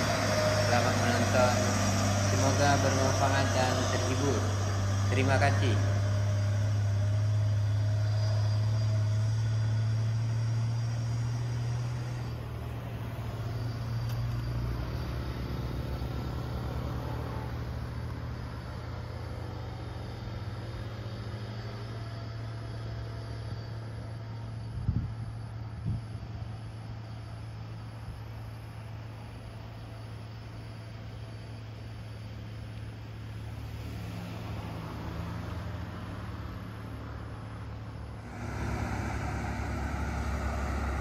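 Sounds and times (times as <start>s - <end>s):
diesel truck engine droning: 0.0s - 41.0s
traffic rumble of cars passing: 0.0s - 41.0s.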